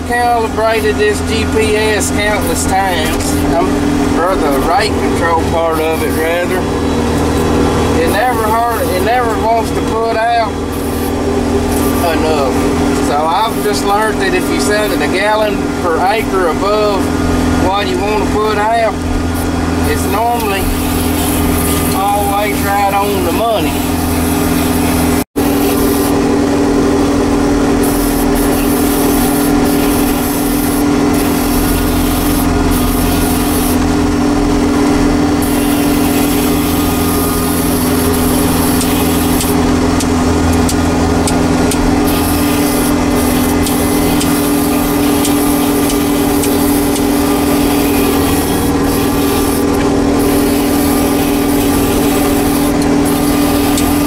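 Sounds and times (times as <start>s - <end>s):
engine droning from inside cab: 0.0s - 54.0s.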